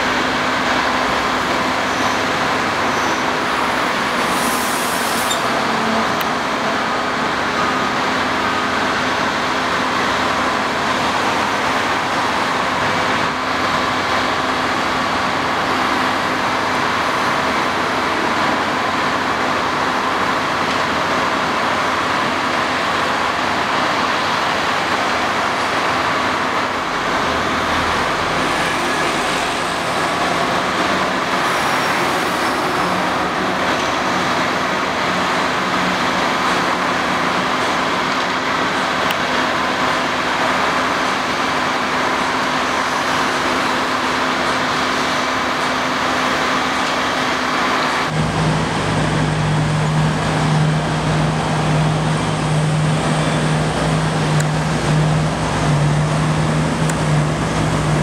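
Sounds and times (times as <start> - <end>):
diesel engine of drilling rig: 0.0 - 58.0
road traffic: 0.0 - 58.0.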